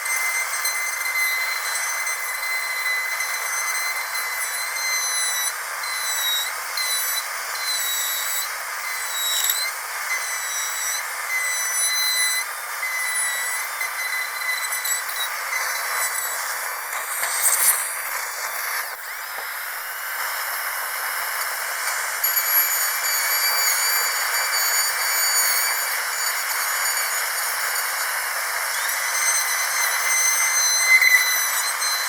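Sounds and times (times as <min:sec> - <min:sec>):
dental drill whining: 0:00.0 - 0:32.0
hiss: 0:00.3 - 0:32.0.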